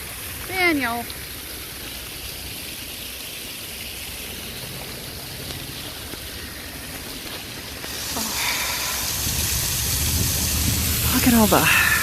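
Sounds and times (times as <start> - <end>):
waterfall pouring into stream: 0.0 - 12.0.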